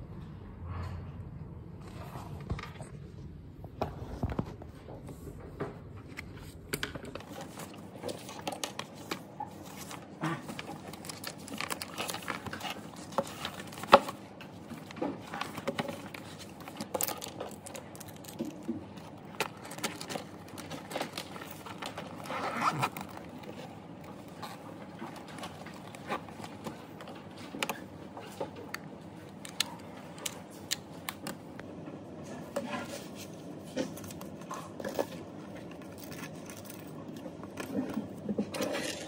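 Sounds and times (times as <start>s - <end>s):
objects being handled: 3.7s - 39.0s.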